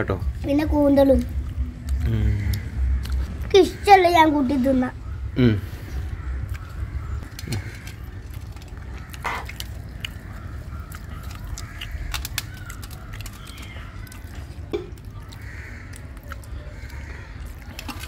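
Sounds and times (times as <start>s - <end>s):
steady low hum: 0.0s - 17.8s
crows cawing: 2.2s - 18.0s.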